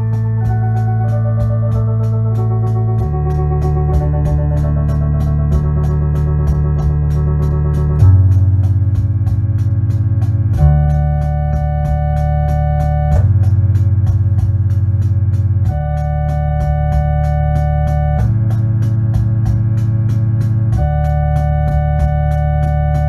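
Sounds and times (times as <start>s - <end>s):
electronic organ chords: 0.0s - 23.0s
steady ticking beat: 0.0s - 23.0s.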